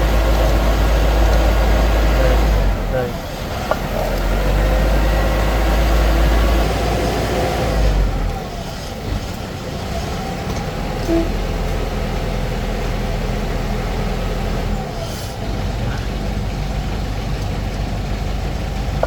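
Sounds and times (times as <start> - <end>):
heavy truck engine rumbling: 0.0 - 19.0.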